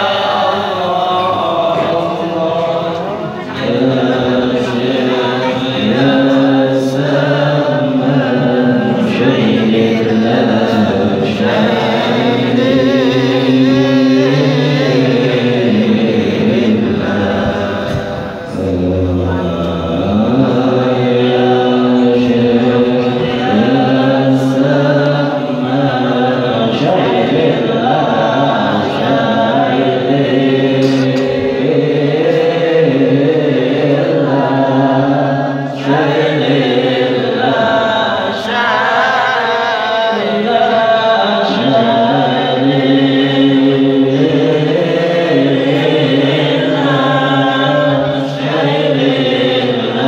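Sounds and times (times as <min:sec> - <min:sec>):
man chanting into a microphone: 0:00.0 - 0:50.0.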